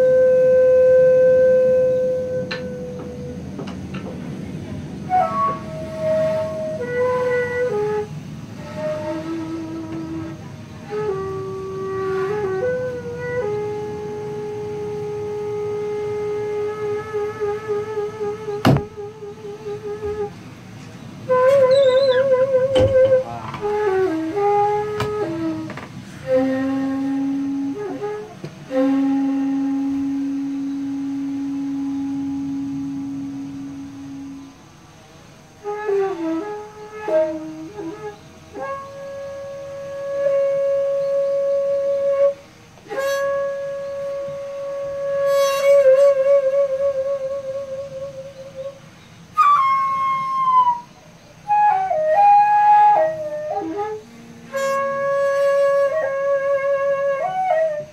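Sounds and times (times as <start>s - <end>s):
bamboo flute melody: 0.0s - 57.9s.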